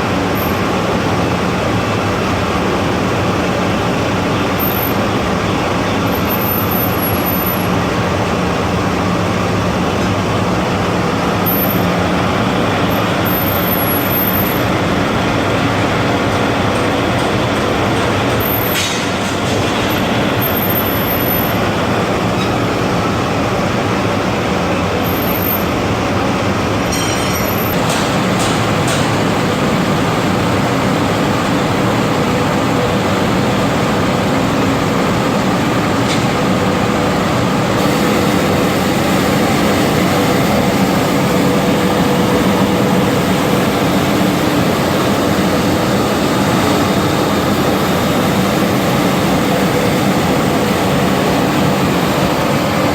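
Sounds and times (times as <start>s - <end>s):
industrial fans roaring: 0.0s - 52.9s
low machinery hum: 0.0s - 52.9s.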